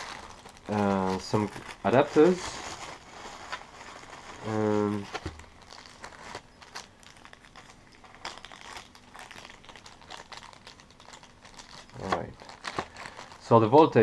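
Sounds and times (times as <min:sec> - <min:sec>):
plastic crinkling and rustling: 0:00.0 - 0:14.0.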